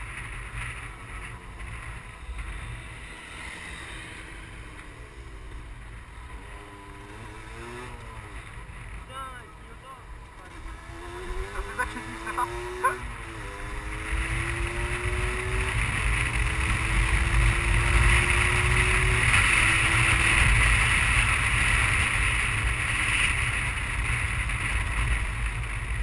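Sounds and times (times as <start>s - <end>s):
motorcycle accelerating through gears: 0.0s - 26.0s.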